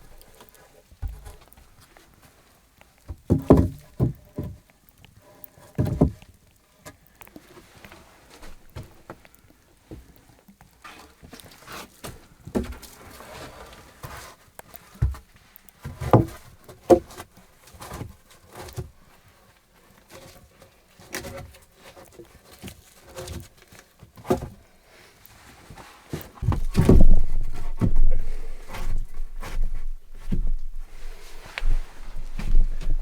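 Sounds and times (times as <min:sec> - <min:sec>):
rustling: 0:00.0 - 0:33.0.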